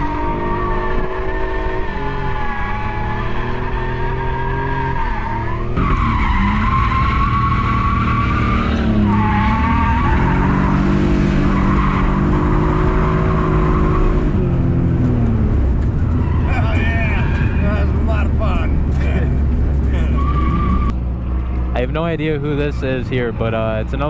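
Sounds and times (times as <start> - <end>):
tyres squealing: 0.0 - 14.1, 16.0 - 24.0
car engine at high revs: 0.0 - 24.0.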